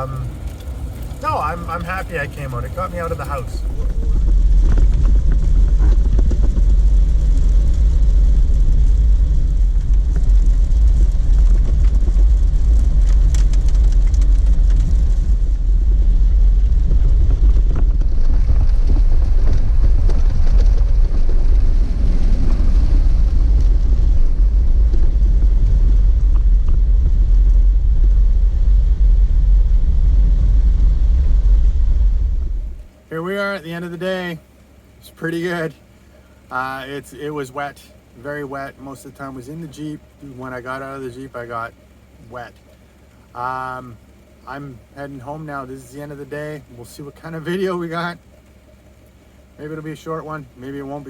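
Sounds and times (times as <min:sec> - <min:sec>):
vehicle engine and tyres rumbling: 0:00.0 - 0:51.0.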